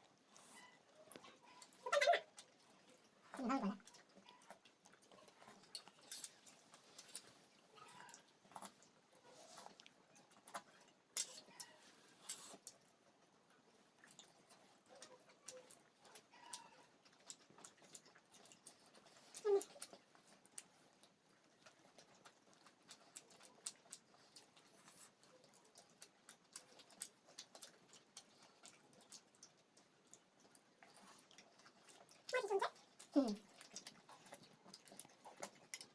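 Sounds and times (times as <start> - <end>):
chewing and mouth clicks: 0.0 - 35.9.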